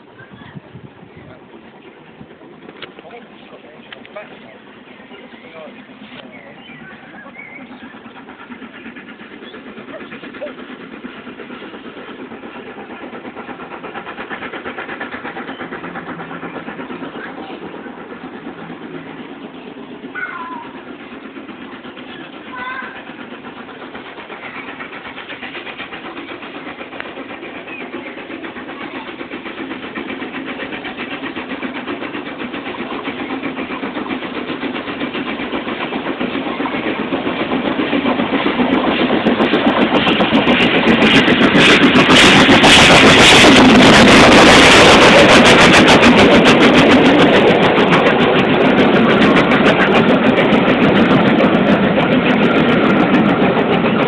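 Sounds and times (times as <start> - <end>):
steam locomotive exhaust: 0.0 - 54.0.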